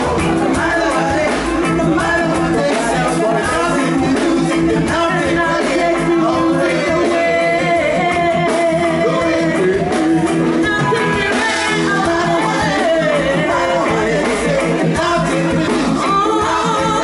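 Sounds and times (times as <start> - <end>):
reggae backing band: 0.0 - 17.0
singers singing together: 0.0 - 17.0.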